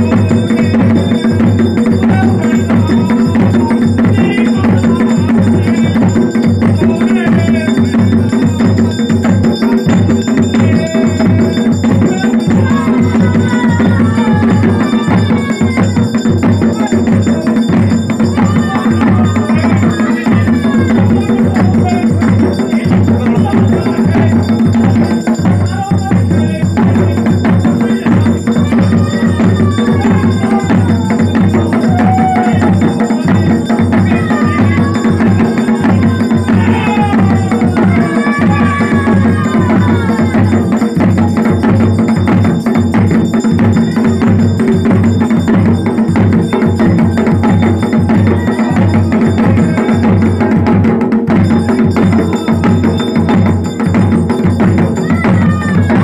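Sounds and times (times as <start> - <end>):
voices gliding up and down: 0.0 - 50.6
loud fast drumming: 0.0 - 56.0.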